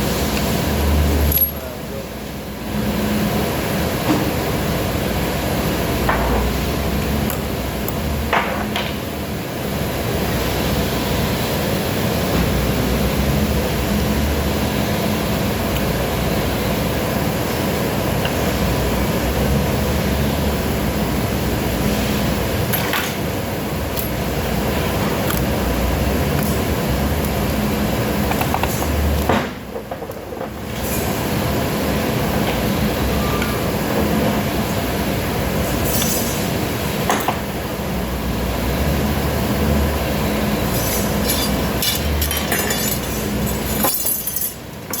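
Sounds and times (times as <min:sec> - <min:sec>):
loud mechanical running noise: 0:00.0 - 0:45.0.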